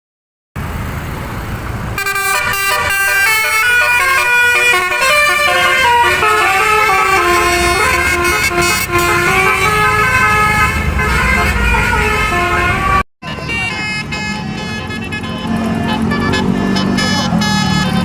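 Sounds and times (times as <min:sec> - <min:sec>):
multi-note bus horn tune: 0:02.0 - 0:18.0.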